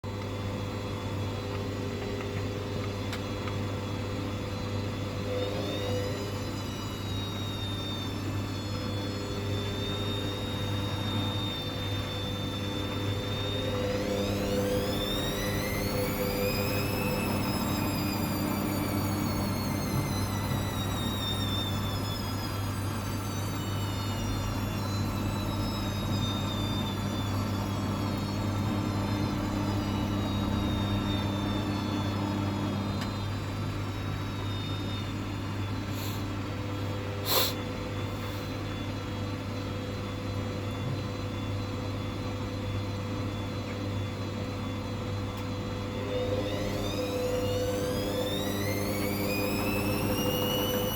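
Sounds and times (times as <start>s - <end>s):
washing machine motor whining: 0.0s - 50.9s
steady low hum: 0.4s - 42.6s.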